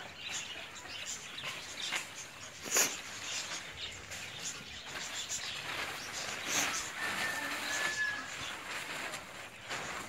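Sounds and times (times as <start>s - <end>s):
birds chirping: 0.0s - 10.0s
plastic tarpaulin rustling: 0.0s - 10.0s.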